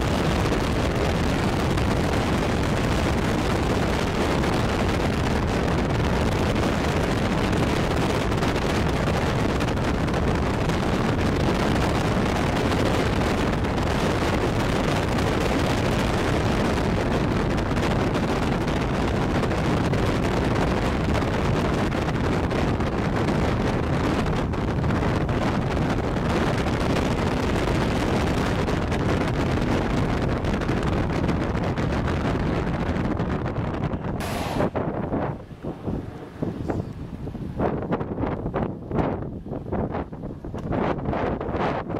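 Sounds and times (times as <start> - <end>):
car road noise at highway speed: 0.0 - 41.9
rushing wind: 0.0 - 41.9
wind buffeting microphone: 0.0 - 41.9.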